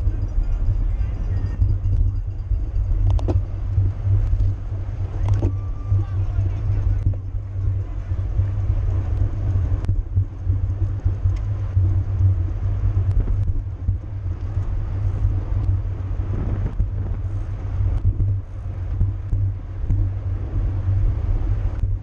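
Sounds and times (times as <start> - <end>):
bicycle road noise: 0.0 - 22.0
wind rumble on microphone: 0.0 - 22.0.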